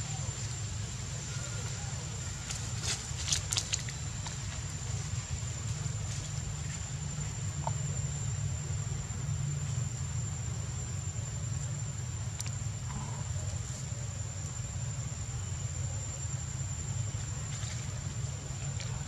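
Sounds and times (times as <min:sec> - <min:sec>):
high thin insect drone: 0:00.0 - 0:19.0.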